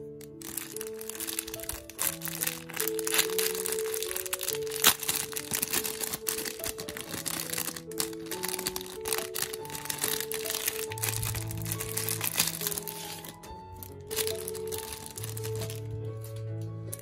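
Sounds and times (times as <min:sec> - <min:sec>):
background music of held notes: 0:00.0 - 0:17.0
plastic bags crinkling: 0:00.0 - 0:17.0.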